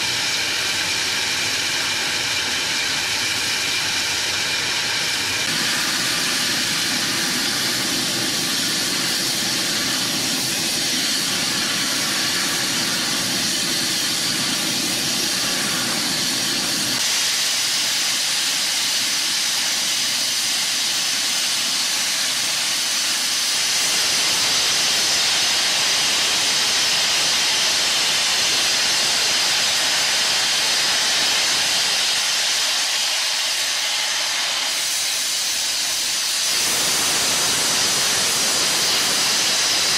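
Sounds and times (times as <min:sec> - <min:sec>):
steam hissing from locomotive: 0:00.0 - 0:39.9.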